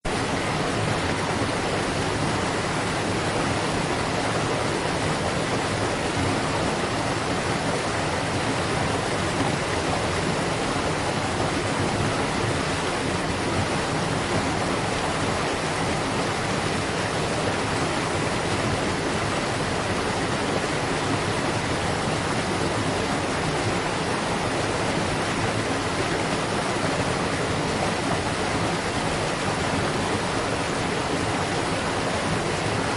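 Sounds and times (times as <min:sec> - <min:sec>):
waterfall rushing and splashing: 0:00.0 - 0:32.9.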